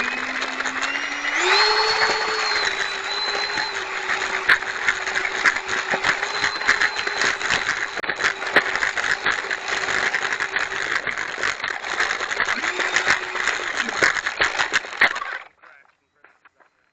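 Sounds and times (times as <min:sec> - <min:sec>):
electric fan motor whine: 0:00.0 - 0:15.0
irregular clicks and crackles: 0:00.0 - 0:16.9.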